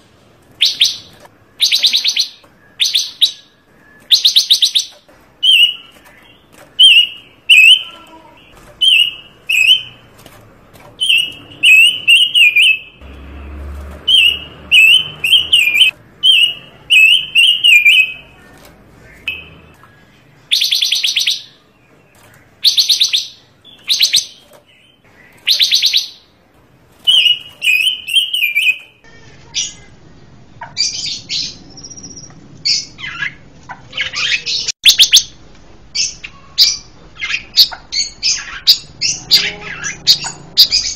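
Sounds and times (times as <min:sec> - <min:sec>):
songbird singing: 0:00.5 - 0:40.9.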